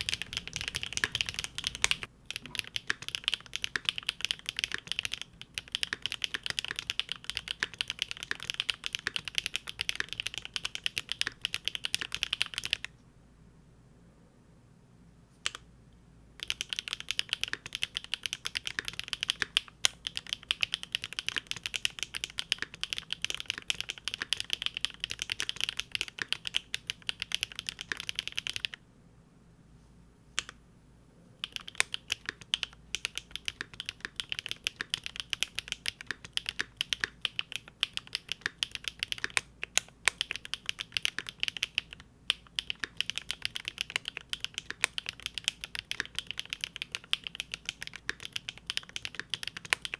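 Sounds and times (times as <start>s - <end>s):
mechanical keyboard typing: 0.0s - 12.9s, 16.4s - 28.8s, 31.4s - 49.9s.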